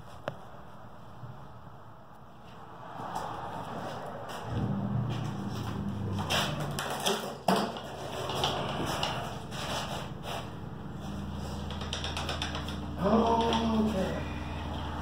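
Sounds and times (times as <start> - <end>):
dirt bike handled on garage floor: 0.0 - 1.5, 2.1 - 15.0.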